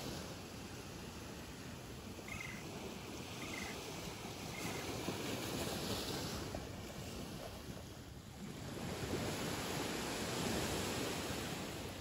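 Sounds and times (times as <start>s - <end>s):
waves breaking on sand: 0.0s - 12.0s
wind rumbling on microphone: 0.0s - 12.0s.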